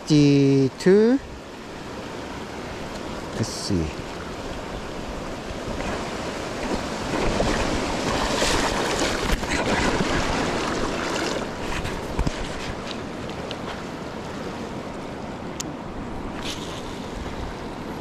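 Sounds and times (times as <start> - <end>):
fast river rushing: 0.0 - 18.0.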